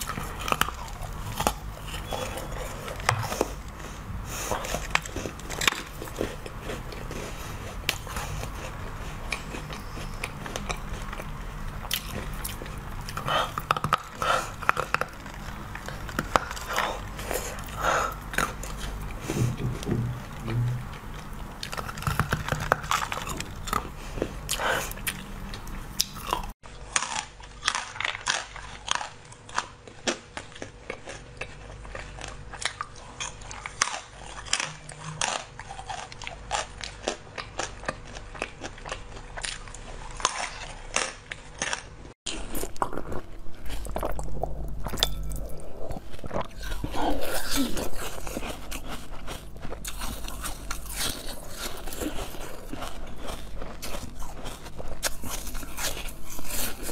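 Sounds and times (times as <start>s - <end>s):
person biting and chewing: 0.0s - 56.9s.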